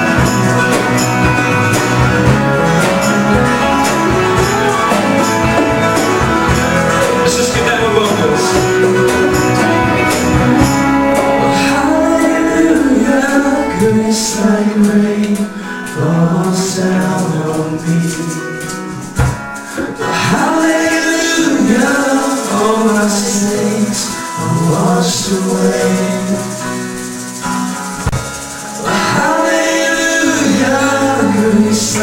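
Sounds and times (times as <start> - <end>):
live band playing worship song: 0.0 - 32.0.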